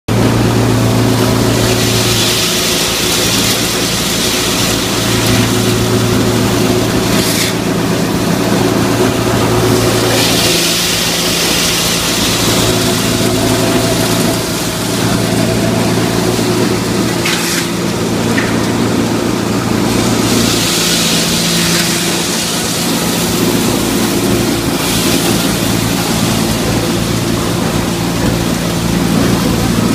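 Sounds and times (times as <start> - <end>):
grinder machine hum: 0.1 - 29.9.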